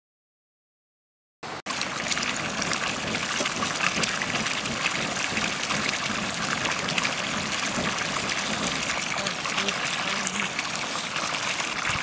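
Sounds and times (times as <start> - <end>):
wood fire crackling and hissing: 1.7 - 12.0.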